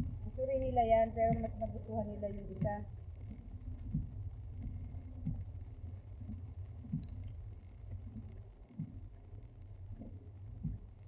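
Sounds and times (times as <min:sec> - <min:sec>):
light ticks: 0:01.0 - 0:11.0.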